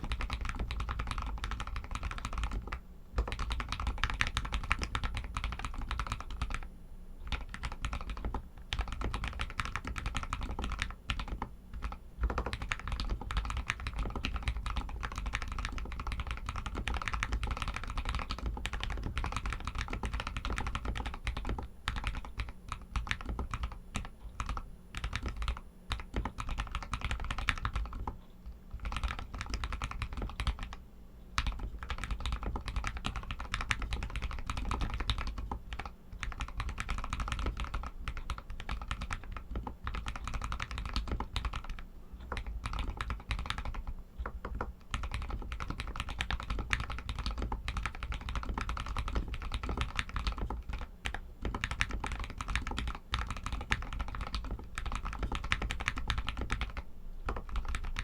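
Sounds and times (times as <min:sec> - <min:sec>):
mechanical keyboard typing: 0:00.0 - 0:30.8, 0:31.4 - 0:58.0.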